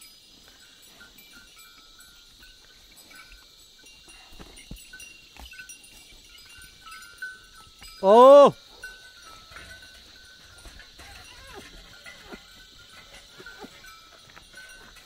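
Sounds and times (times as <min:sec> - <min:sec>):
neck bells tinkling: 0:00.0 - 0:15.0.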